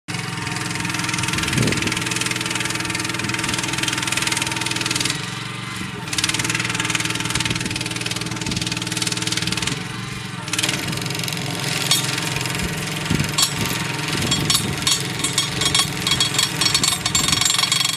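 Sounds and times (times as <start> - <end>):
engine running steadily: 0.1 - 17.9.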